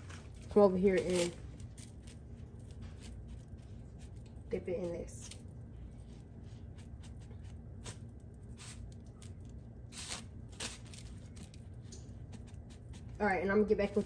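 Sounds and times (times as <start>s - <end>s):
crumbs crunching and rustling: 0.0s - 14.0s.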